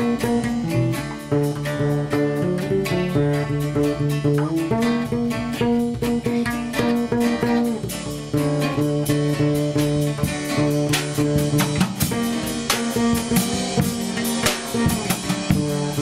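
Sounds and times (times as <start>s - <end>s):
drum kit steady beat: 0.0s - 16.0s
plucked bass notes: 0.0s - 16.0s.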